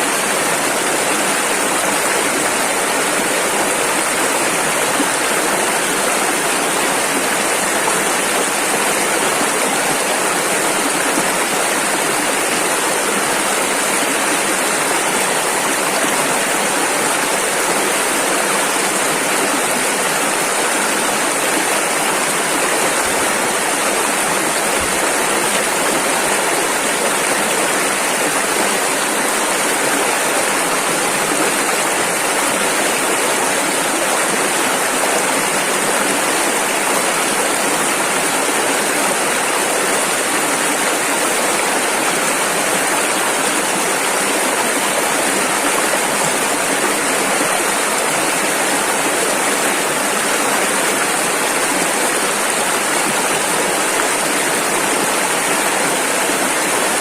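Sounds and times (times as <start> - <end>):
river water rushing over rapids: 0.0 - 57.0.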